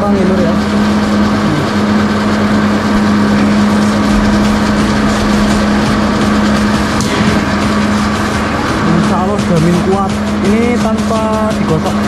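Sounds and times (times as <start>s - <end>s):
constant low hum: 0.0s - 12.0s
loud machine drone: 0.0s - 12.0s.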